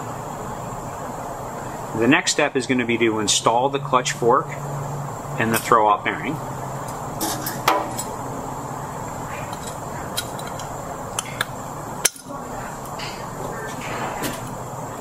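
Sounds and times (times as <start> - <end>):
workshop background noise: 0.0 - 15.0.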